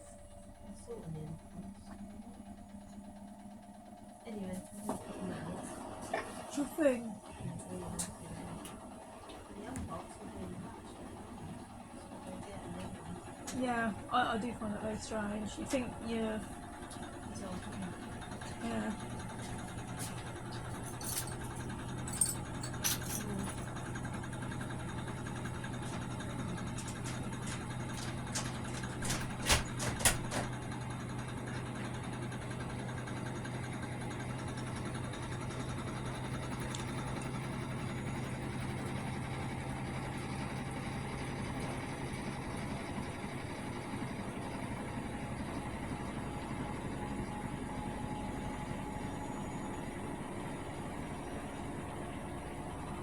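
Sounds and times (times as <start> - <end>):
washing machine knocking: 0.0 - 4.6, 7.9 - 48.9
washing machine humming: 0.0 - 53.0.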